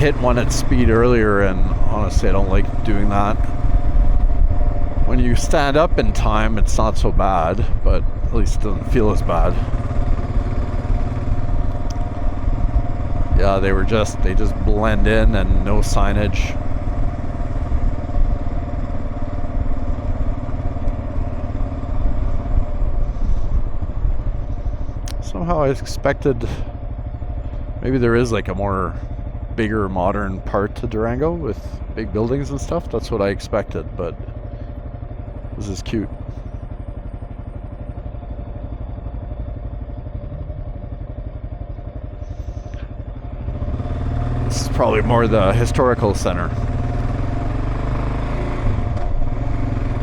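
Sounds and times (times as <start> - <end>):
motorcycle engine running: 0.0 - 50.0
road and wind noise: 0.0 - 50.0.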